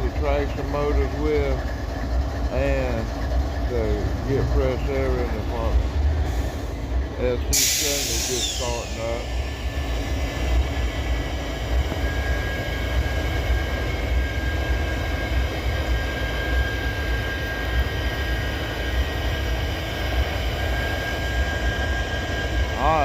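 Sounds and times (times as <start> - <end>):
diesel locomotive engine rumbling: 0.0 - 23.0.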